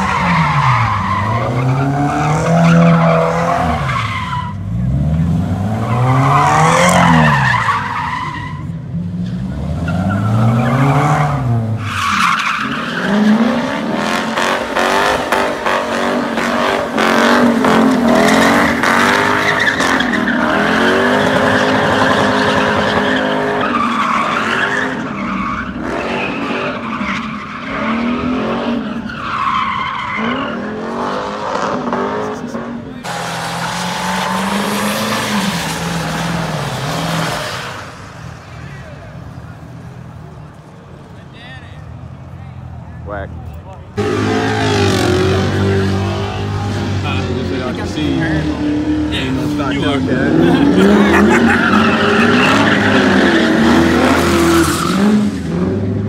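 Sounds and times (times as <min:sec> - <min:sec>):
car engine revving: 0:00.0 - 0:39.7, 0:43.9 - 0:56.0
pickup truck burnout: 0:00.0 - 0:41.1, 0:43.9 - 0:56.0
tires squealing: 0:00.0 - 0:56.0.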